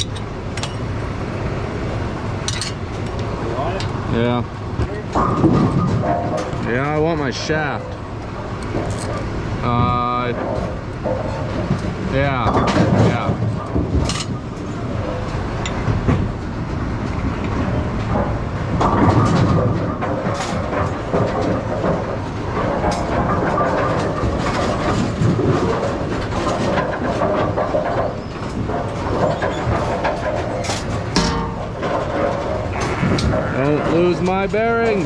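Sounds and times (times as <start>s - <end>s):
pinsetter machinery rumbling: 0.0s - 35.0s
clattering and knocks: 2.4s - 35.0s.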